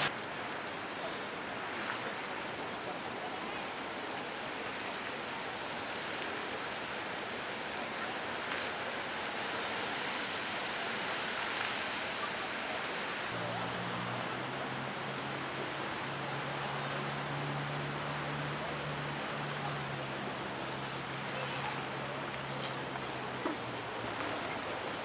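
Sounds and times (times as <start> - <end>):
fountain water splashing: 0.0 - 25.0.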